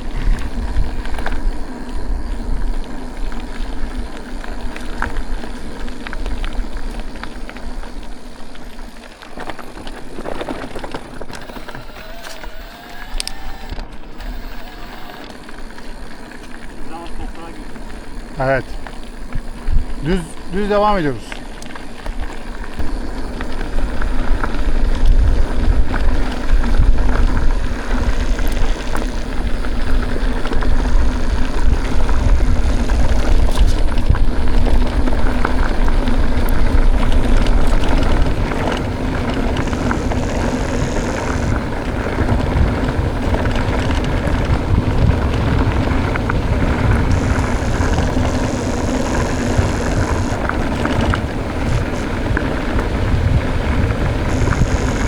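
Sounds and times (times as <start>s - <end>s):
wind buffeting microphone: 0.0s - 8.3s, 10.0s - 55.0s
bike tyres rolling on dirt: 0.0s - 55.0s.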